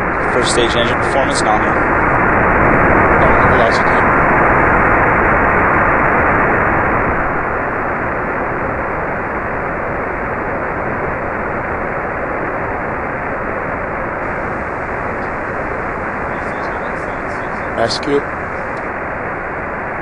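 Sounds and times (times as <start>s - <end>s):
rocket engine roar: 0.0s - 20.0s.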